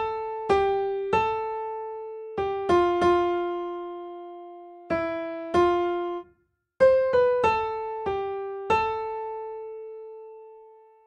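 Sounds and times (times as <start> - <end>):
piano melody: 0.0 - 11.0.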